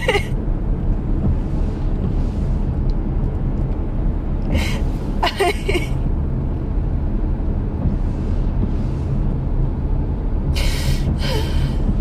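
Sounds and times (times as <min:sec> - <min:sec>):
car idling heard from cabin: 0:00.0 - 0:12.0.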